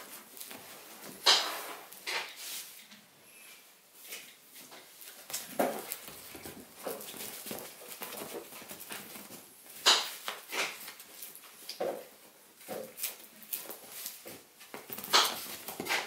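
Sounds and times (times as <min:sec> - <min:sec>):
puppy scuffling with toy: 0:00.0 - 0:02.9, 0:04.0 - 0:16.0.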